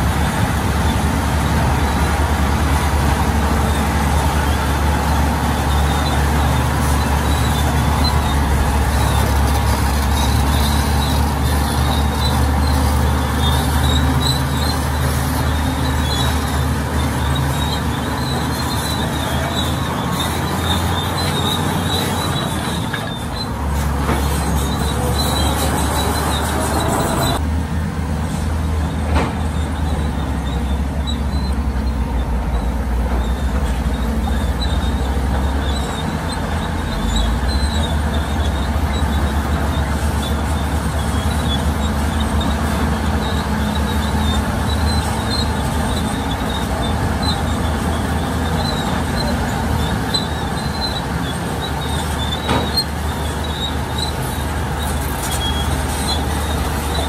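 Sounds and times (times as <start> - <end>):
diesel machinery engine drone: 0.0 - 57.0
high metallic squeal: 4.4 - 27.4, 29.4 - 57.0.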